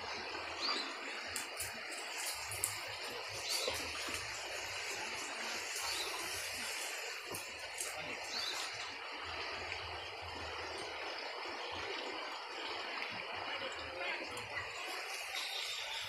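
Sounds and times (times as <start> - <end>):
water rushing through sluice gate: 0.0 - 16.0.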